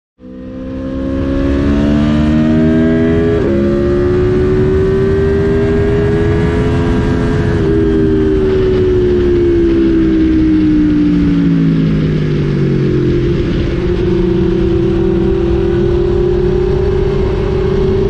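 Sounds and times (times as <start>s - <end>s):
motorcycle engine accelerating: 0.2s - 18.0s
wind rush: 0.7s - 18.0s.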